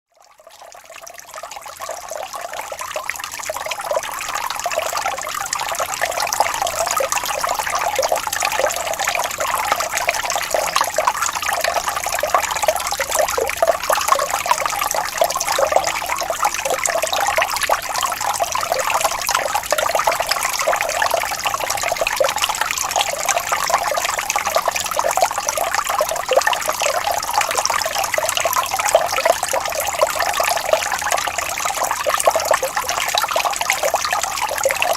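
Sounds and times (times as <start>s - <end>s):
water splashing and trickling: 0.2s - 34.9s.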